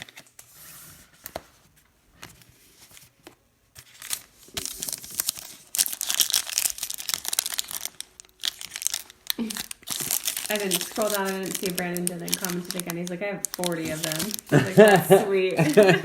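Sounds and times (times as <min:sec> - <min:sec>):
foil wrapper crinkling and tearing: 0:00.0 - 0:00.5, 0:02.3 - 0:16.0.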